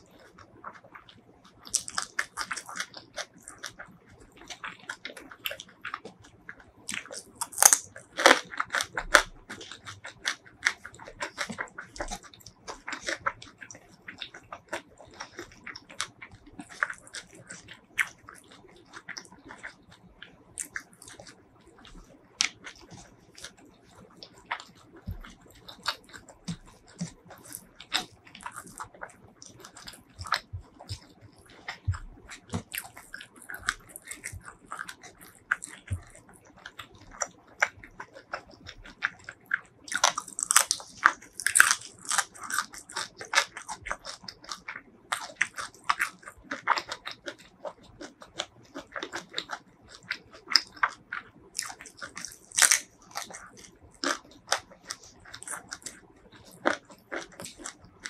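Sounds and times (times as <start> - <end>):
crunching fried shrimp: 0.0 - 58.0.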